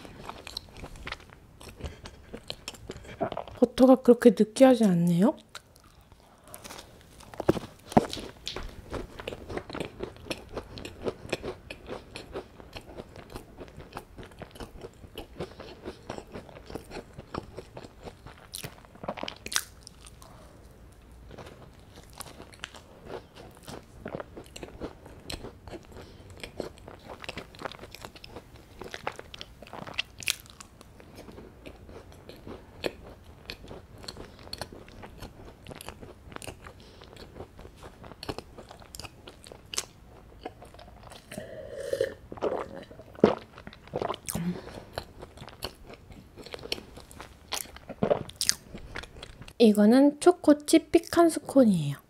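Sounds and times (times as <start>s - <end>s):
person chewing crumbly scone: 0.0s - 3.6s, 5.4s - 41.5s, 42.2s - 49.6s.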